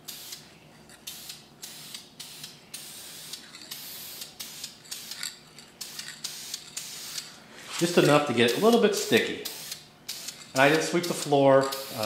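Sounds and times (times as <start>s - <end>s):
aerosol spray can hissing: 1.1s - 12.0s.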